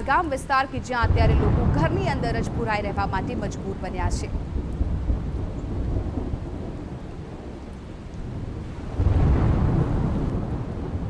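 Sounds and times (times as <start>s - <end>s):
rain hiss: 0.0s - 11.0s
thunder rumbling: 0.0s - 11.0s.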